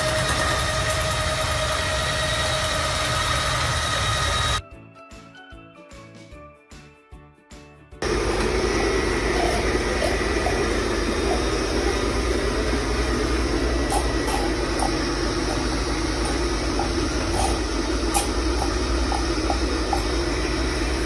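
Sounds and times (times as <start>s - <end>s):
robot vacuum suction fan: 0.0s - 4.6s, 8.0s - 21.0s.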